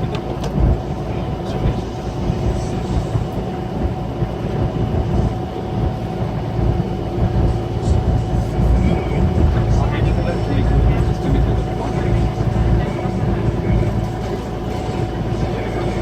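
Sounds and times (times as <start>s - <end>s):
coach engine droning: 0.0s - 16.0s.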